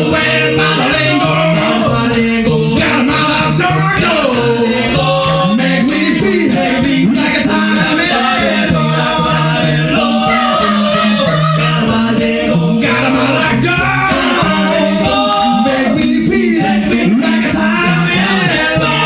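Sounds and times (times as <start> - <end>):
men singing in close harmony: 0.0 - 19.0
sung bass line: 0.0 - 19.0.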